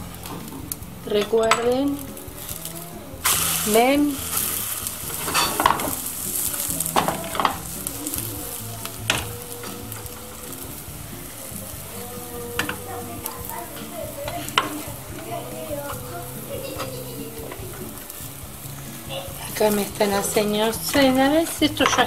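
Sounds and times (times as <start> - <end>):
crepe sizzling in frying pan: 0.0 - 22.0
pan and utensils clicking: 0.2 - 22.0.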